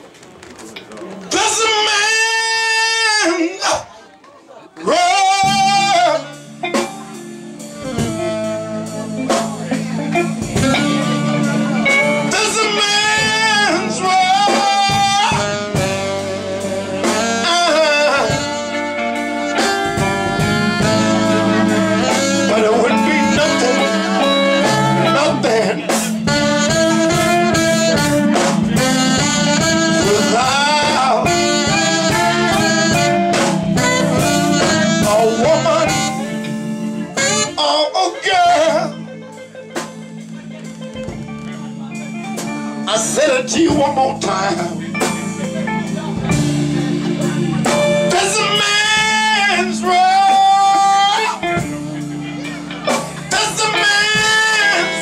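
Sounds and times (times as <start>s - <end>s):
drums: 0.0s - 55.0s
man singing: 1.3s - 4.0s, 4.8s - 39.4s, 41.5s - 55.0s
bass: 4.8s - 55.0s
saxophone: 4.9s - 55.0s.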